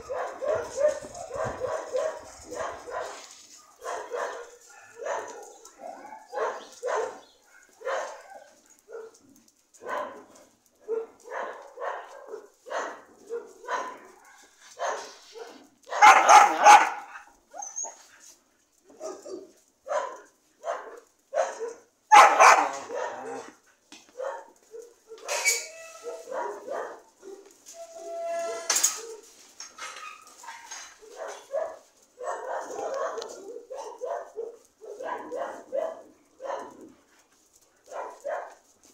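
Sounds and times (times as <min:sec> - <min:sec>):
dogs barking: 0:00.0 - 0:17.7, 0:18.9 - 0:27.6, 0:28.7 - 0:38.7.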